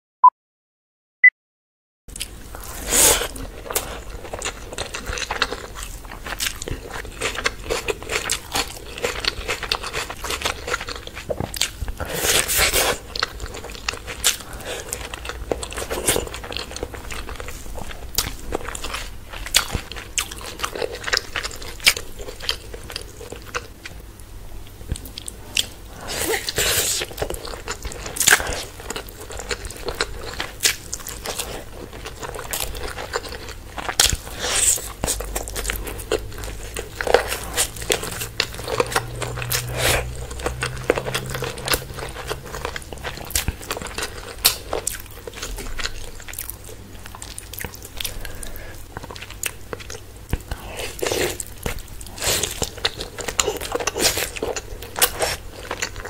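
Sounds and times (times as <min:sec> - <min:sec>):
person chewing and crunching food: 0:02.1 - 0:56.0.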